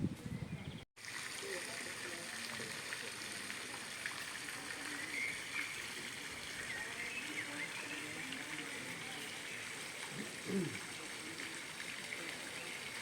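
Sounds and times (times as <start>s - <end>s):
faint distant voices: 0.1s - 13.0s
running water: 1.0s - 13.0s.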